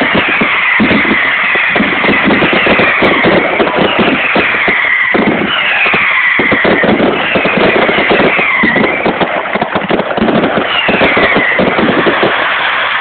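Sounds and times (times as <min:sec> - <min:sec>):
fireworks crackling and banging: 0:00.0 - 0:13.0
fireworks whistling: 0:00.0 - 0:13.0.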